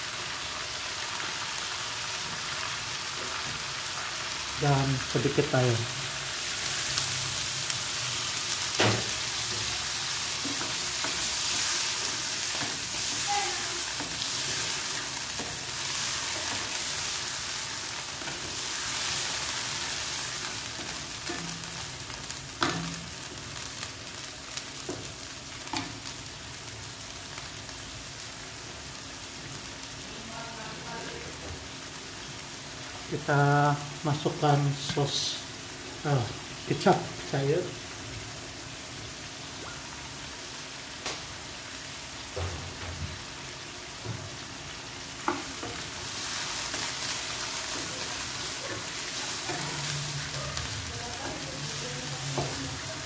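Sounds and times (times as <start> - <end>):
chicken sizzling in oil: 0.0 - 53.0.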